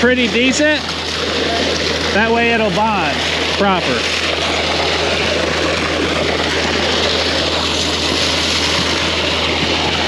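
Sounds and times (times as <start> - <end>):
concrete machinery engine drone: 0.0 - 10.0.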